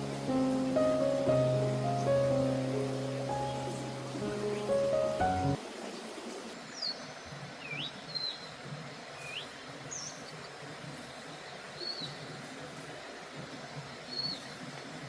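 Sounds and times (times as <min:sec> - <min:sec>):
outdoor ambience hiss: 0:00.0 - 0:15.0.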